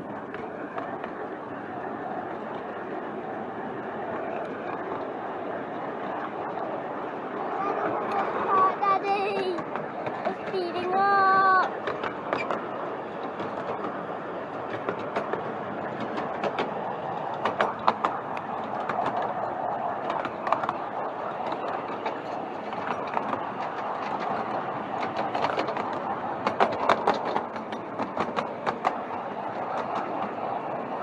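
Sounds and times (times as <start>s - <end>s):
train wheels rumbling on rail: 0.0s - 31.0s
wheels clacking over rail joints: 0.0s - 31.0s.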